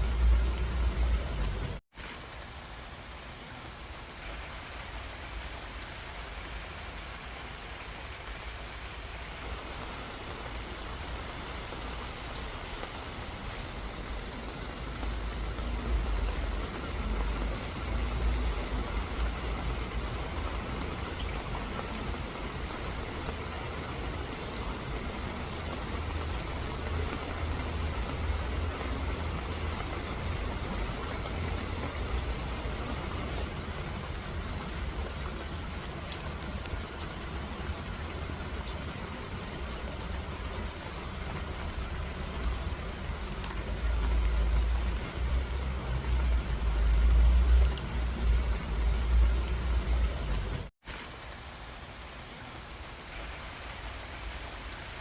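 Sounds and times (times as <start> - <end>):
rain falling steadily: 0.0 - 55.0.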